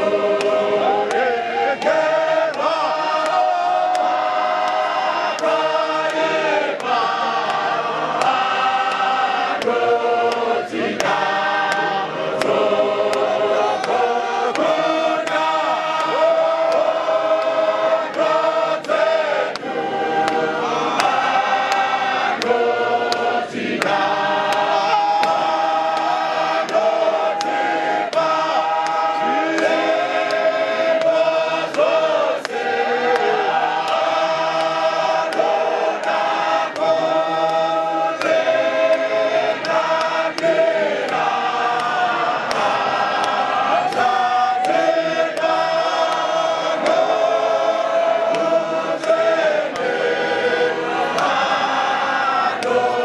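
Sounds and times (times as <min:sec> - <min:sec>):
congregation singing a hymn: 0:00.0 - 0:53.0.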